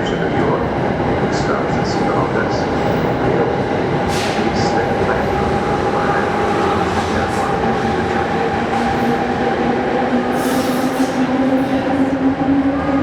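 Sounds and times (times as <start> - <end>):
train rolling into station: 0.0 - 13.0.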